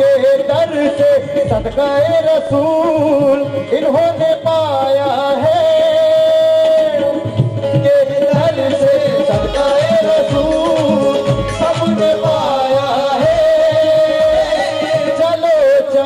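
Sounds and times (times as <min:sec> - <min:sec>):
harmonium: 0:00.0 - 0:16.0
man singing into microphone: 0:00.0 - 0:16.0.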